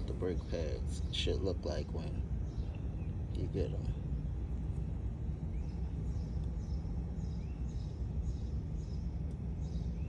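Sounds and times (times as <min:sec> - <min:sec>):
birds chirping: 0:00.0 - 0:10.0
steady low rumble: 0:00.0 - 0:10.0.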